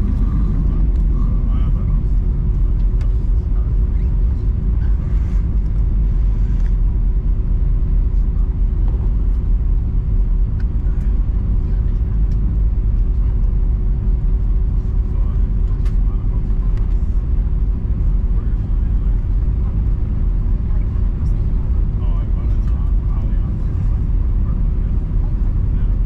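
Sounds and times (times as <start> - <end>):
aircraft cabin low rumble: 0.0 - 26.0
constant hum: 0.0 - 26.0.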